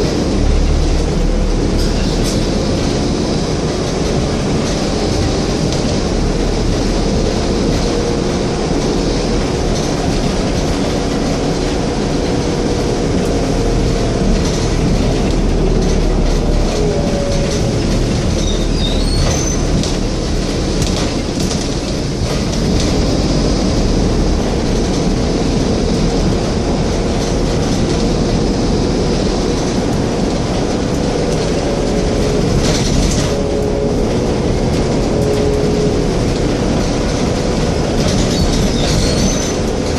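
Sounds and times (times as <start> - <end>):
bus engine rumble and whine: 0.0 - 39.9.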